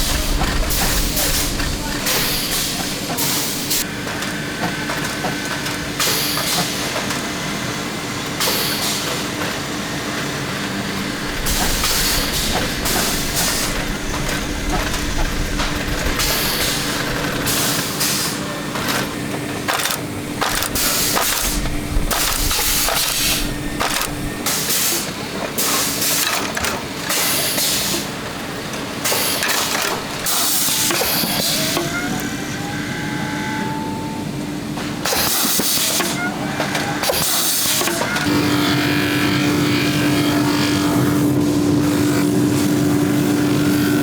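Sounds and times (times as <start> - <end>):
factory machinery humming: 0.0 - 26.2, 28.0 - 44.0.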